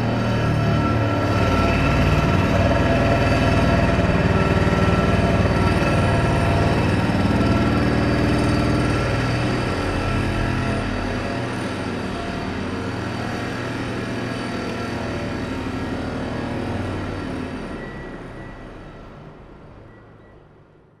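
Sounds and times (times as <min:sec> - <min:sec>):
construction machinery engine drone: 0:00.0 - 0:21.0.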